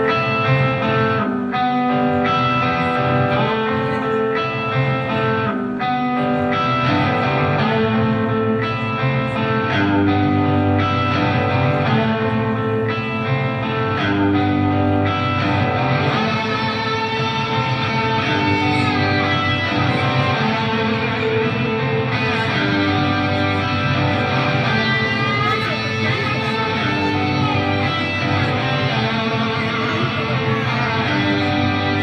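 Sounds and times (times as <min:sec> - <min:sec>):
electric guitar playing chords: 0:00.0 - 0:32.0.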